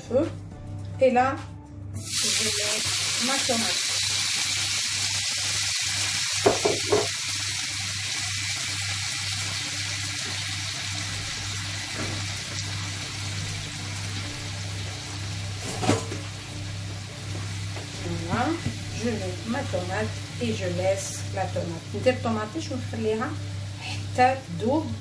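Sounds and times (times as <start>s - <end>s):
tomatoes sizzling in hot oil: 2.0s - 25.0s.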